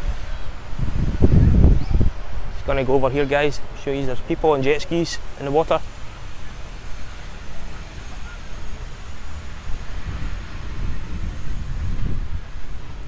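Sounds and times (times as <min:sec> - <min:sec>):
beach surf hissing: 0:00.0 - 0:13.0
wind buffeting microphone: 0:00.0 - 0:13.0.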